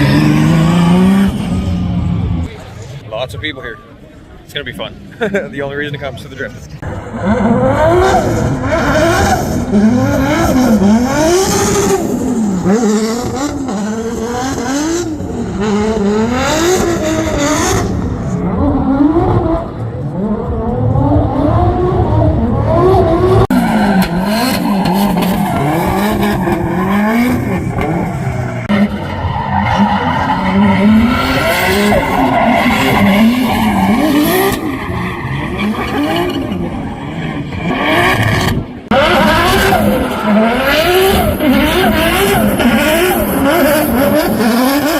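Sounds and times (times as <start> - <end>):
car engine revving hard: 0.0 - 2.5, 6.9 - 44.9.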